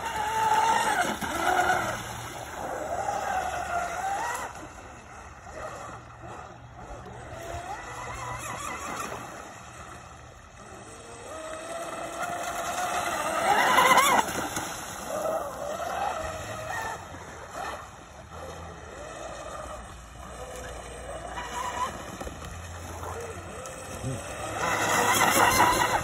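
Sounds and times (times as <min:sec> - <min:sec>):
model boat motor whine: 0:00.0 - 0:26.0.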